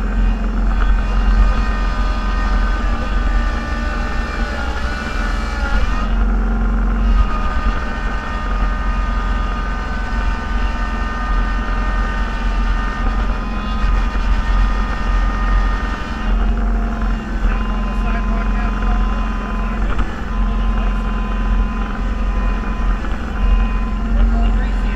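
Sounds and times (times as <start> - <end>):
steady high whine: 0.0 - 24.9
vehicle engine rumble: 0.0 - 24.9.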